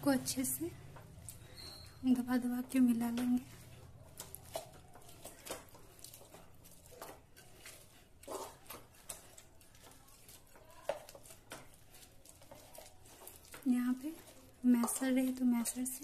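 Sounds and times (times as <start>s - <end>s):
food squishing: 0.0s - 16.0s
knocks and scrapes against pan: 0.4s - 16.0s.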